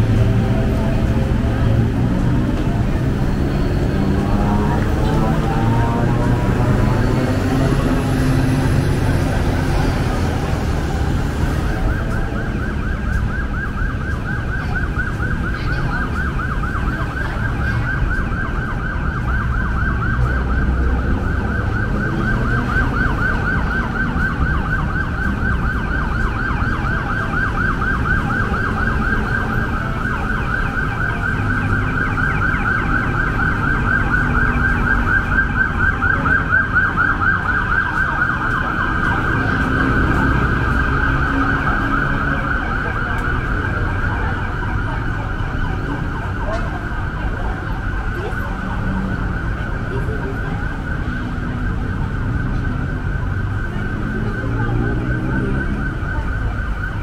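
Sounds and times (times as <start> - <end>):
emergency siren yelping: 0.0 - 57.0
low rumble of city traffic: 0.0 - 57.0.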